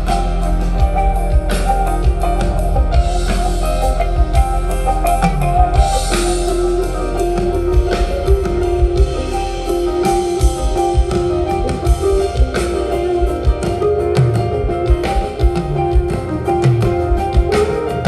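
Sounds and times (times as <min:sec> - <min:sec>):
drum kit beat: 0:00.0 - 0:18.0
electric guitar sustained notes: 0:00.0 - 0:18.0.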